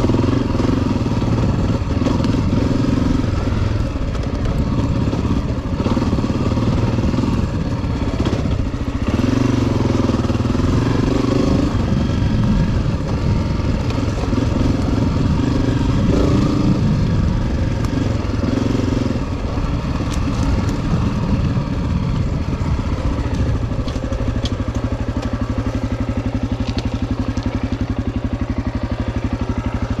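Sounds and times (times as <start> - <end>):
trail bike engine revving: 0.0 - 30.0.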